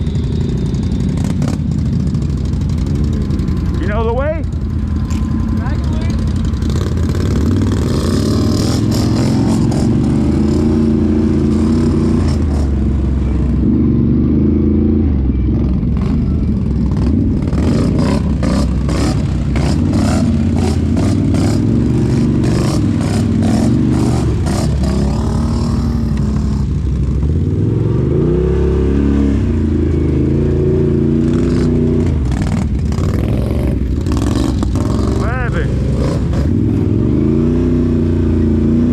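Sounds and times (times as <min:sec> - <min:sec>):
off-road engine revving: 0:00.0 - 0:38.9.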